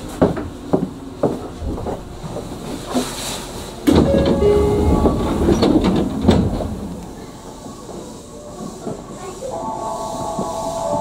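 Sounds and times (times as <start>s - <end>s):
electric train inverter whine: 0.0s - 11.0s.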